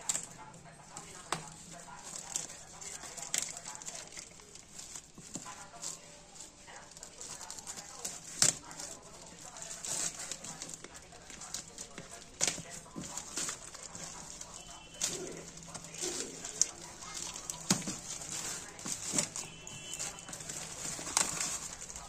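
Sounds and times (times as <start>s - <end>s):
plastic mailer crinkling: 0.0s - 22.0s
plastic ripping: 0.0s - 22.0s.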